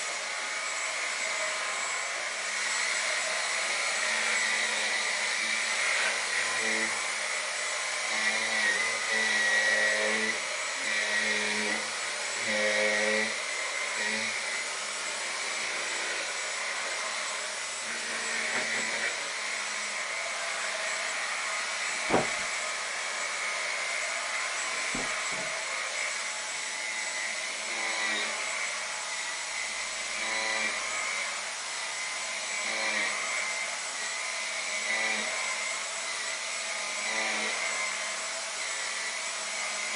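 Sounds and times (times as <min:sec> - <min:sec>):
cordless vacuum whining: 0:00.0 - 0:39.9.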